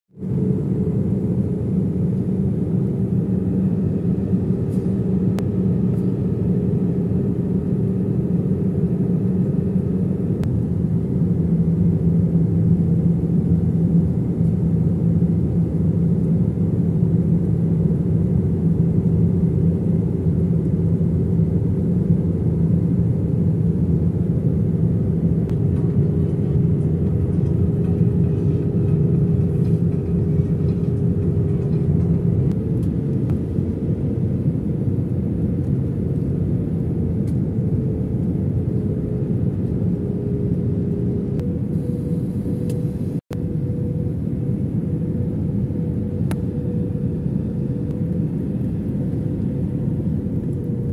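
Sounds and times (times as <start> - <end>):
jet engines droning in cabin: 0.1 - 50.9.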